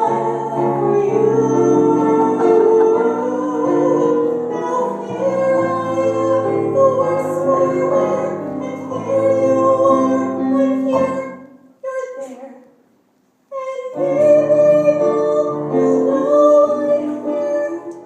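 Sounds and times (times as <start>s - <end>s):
woman singing: 0.0s - 12.6s, 13.5s - 18.0s.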